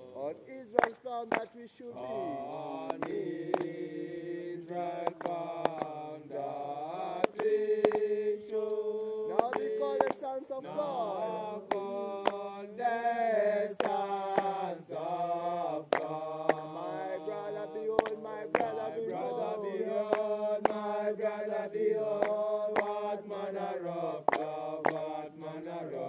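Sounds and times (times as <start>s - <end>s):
congregation chanting in chorus: 0.0s - 26.0s.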